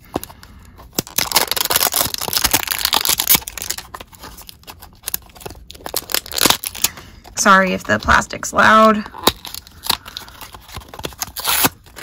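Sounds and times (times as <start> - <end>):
plastic packaging crinkling and tearing: 0.0 - 12.0.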